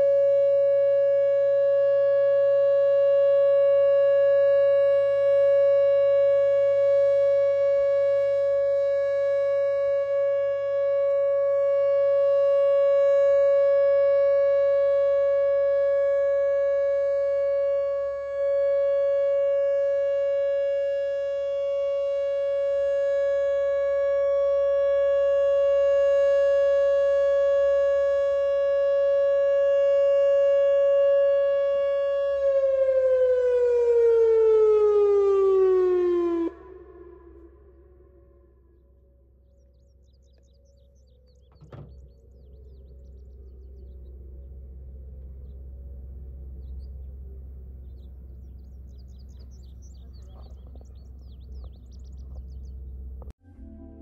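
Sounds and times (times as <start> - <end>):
outdoor warning siren steady tone: 0.0 - 54.0.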